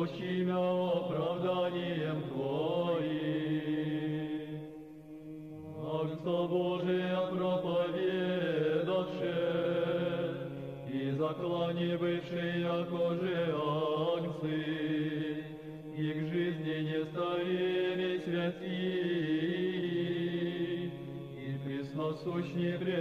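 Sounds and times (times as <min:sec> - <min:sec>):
male choir chanting a cappella: 0:00.0 - 0:23.0.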